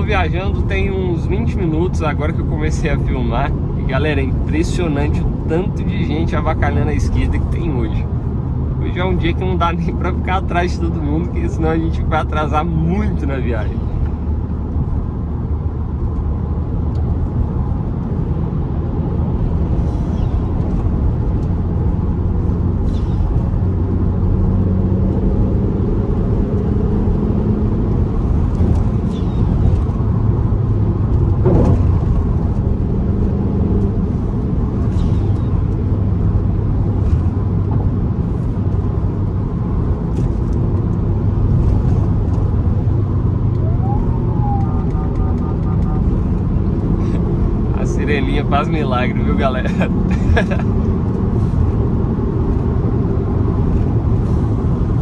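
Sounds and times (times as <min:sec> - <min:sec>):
car engine droning: 0:00.0 - 0:55.0
road noise: 0:00.0 - 0:55.0.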